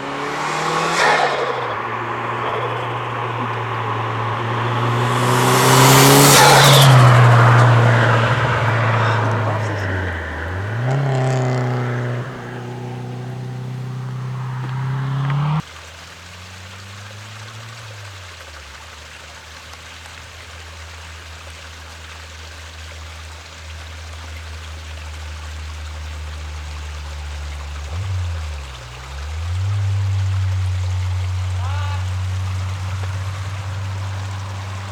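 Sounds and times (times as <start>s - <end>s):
turbocharged car engine pulling hard: 0.0s - 19.0s, 24.7s - 34.9s.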